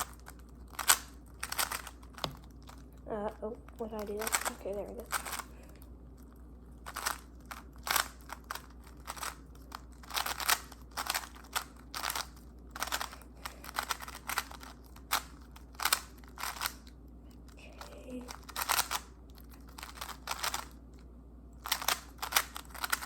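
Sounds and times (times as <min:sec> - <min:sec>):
puzzle cube clacking turns: 0:00.0 - 0:03.0, 0:03.6 - 0:21.0, 0:21.6 - 0:23.0.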